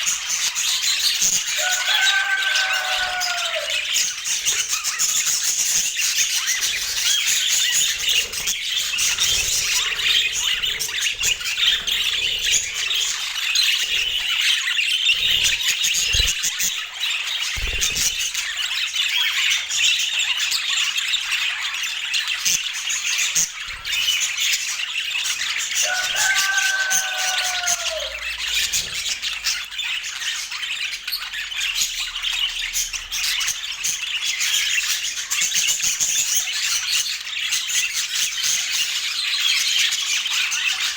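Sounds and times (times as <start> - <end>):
budgies chattering and warbling: 0.0 - 40.9.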